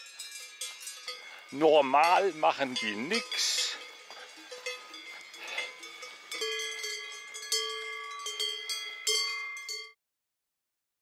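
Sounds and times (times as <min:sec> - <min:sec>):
cow bells clanking: 0:00.0 - 0:10.0.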